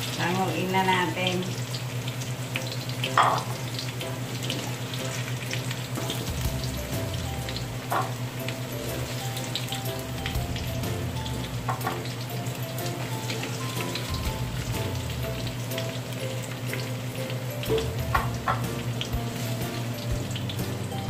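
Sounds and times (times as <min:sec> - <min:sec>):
vegetables sizzling in hot oil: 0:00.0 - 0:21.0
soft background music: 0:02.5 - 0:21.0.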